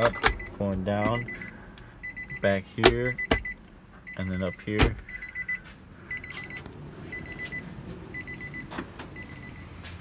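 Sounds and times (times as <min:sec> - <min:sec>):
car warning chime beeping: 0:00.0 - 0:10.0.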